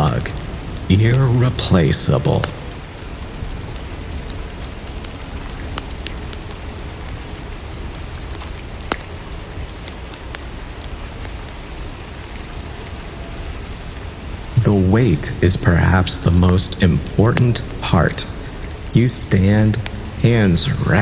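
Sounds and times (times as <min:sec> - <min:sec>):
sharp crackles and ticks: 0:00.0 - 0:21.0
steady rainfall hiss: 0:00.0 - 0:21.0.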